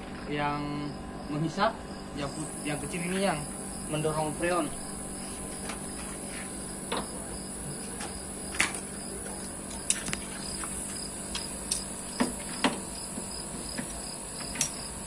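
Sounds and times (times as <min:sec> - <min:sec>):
air conditioner unit humming: 0:00.0 - 0:15.0
high insect-like whine: 0:00.0 - 0:15.0.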